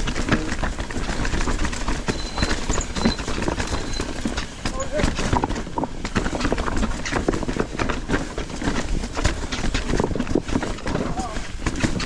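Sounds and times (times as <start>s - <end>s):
mountain bike clattering over rocks: 0.0s - 12.0s.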